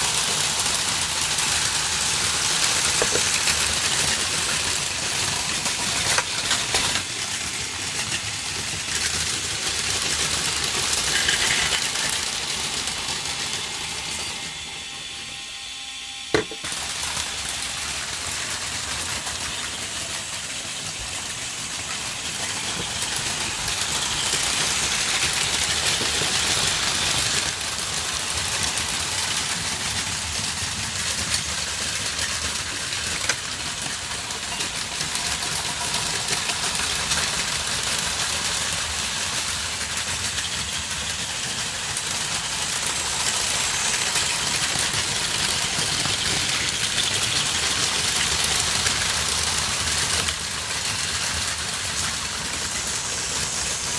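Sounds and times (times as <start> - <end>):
toy train motors whirring: 0.0 - 53.9.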